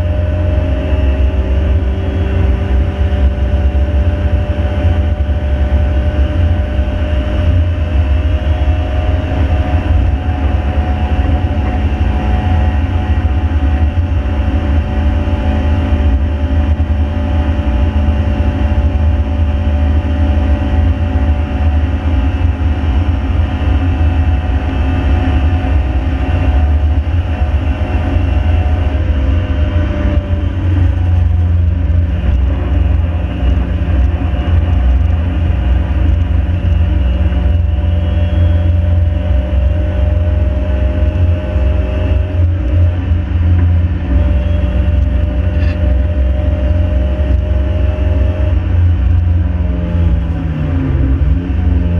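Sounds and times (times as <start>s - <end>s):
car engine running hard: 0.0s - 51.9s
road and wind rumble: 0.0s - 51.9s.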